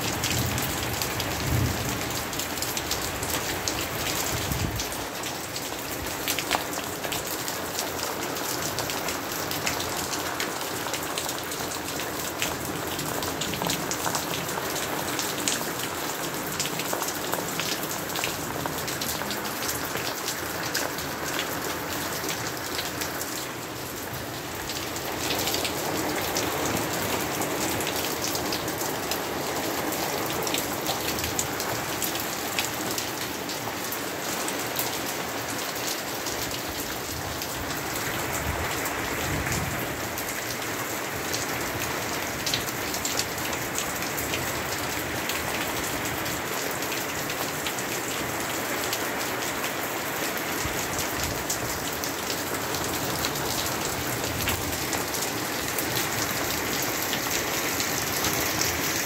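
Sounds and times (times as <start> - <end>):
raindrops hitting a surface: 0.0 - 59.0
steady rain falling: 0.0 - 59.0.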